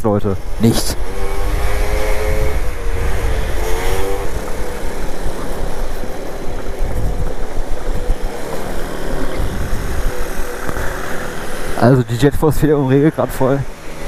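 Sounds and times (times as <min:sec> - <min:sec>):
scooter engine: 0:00.0 - 0:14.0
scooter rumbling over cobblestones: 0:00.0 - 0:14.0.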